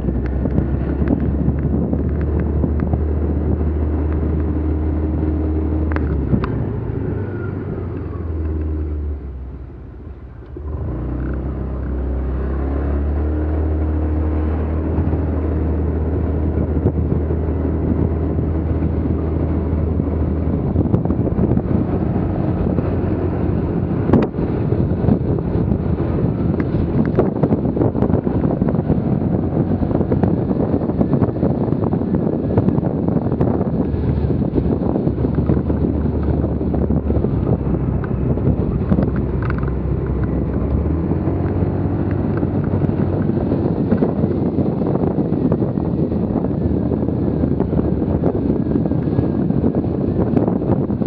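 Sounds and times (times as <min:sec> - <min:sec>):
motorbike engine: 0:00.0 - 0:51.0
road noise: 0:00.0 - 0:51.0
wind buffeting microphone: 0:00.0 - 0:51.0.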